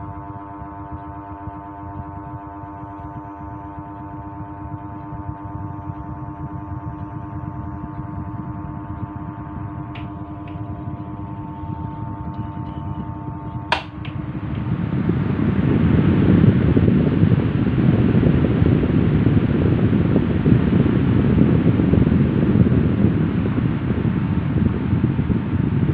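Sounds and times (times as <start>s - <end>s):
fan motor electrical hum: 0.0s - 25.9s
rush of air from fan: 0.0s - 25.9s.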